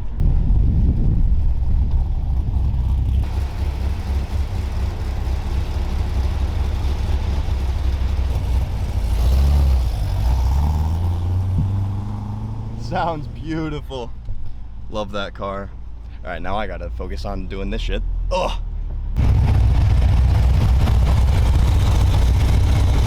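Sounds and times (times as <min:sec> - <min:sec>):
car engine and exhaust humming: 0:00.0 - 0:23.0.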